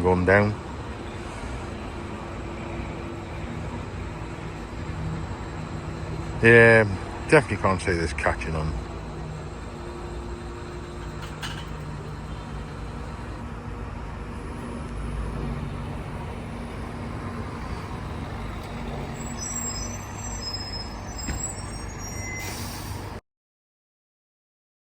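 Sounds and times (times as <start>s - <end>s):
electric bus humming: 0.0s - 23.2s.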